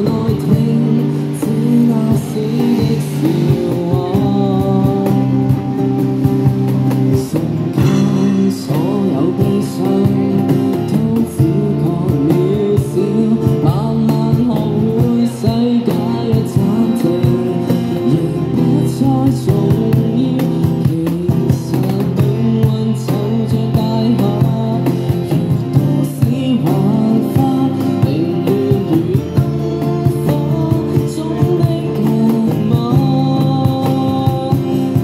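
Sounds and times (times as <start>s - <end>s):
guitar: 0.0s - 35.0s
man singing into microphone: 0.0s - 35.0s.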